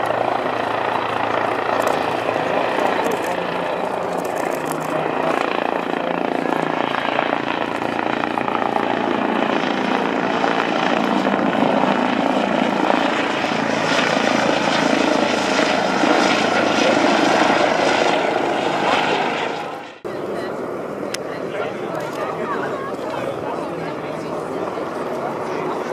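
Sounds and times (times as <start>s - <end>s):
helicopter flying low: 0.0s - 25.9s.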